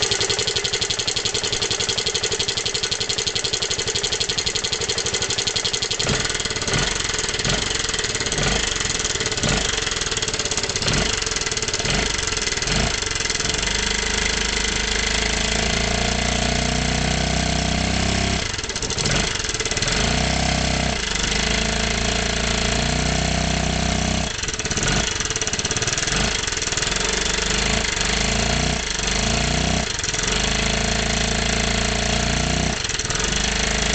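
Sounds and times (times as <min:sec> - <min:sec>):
scooter engine cranking: 0:00.0 - 0:15.9, 0:17.9 - 0:22.0, 0:23.2 - 0:31.6, 0:32.6 - 0:33.9
scooter engine revving: 0:00.0 - 0:33.9.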